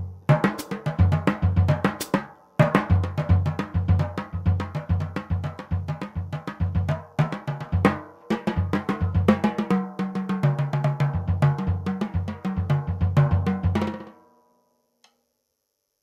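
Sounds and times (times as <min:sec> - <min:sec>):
jazz drum kit solo: 0:00.0 - 0:14.1.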